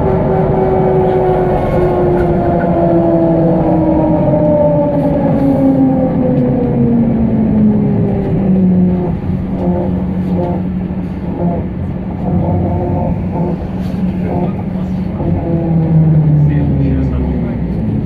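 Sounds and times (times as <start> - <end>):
ride rumble: 0.0 - 18.0
trolleybus electric drive whining: 0.0 - 18.0.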